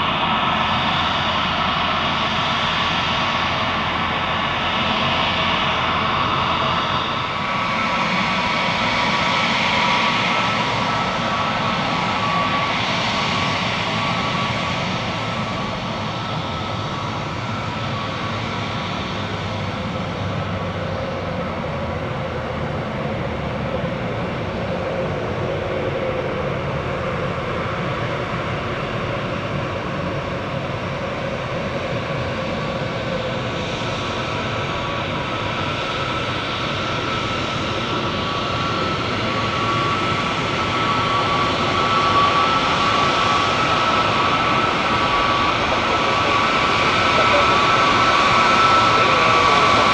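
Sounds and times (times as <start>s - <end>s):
jet engines rushing and whining: 0.0s - 49.9s.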